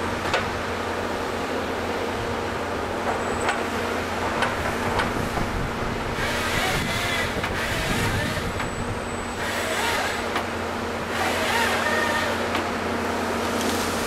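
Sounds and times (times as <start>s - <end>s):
excavator engine and hydraulics: 0.0s - 14.0s.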